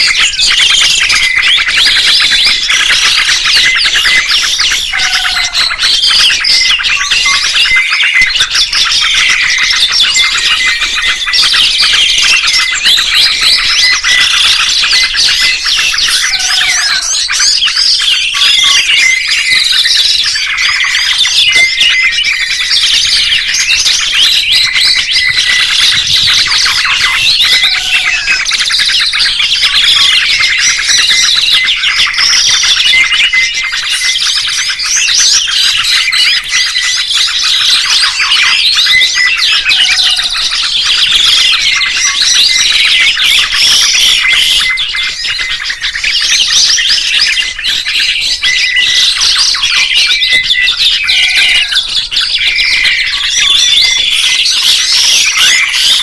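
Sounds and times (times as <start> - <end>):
songbirds chirping and twittering: 0.0 - 56.0.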